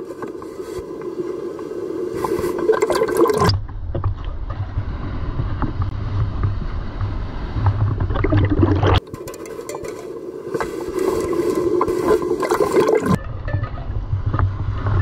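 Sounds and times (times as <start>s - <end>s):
muffled seawater sloshing: 0.0s - 13.2s.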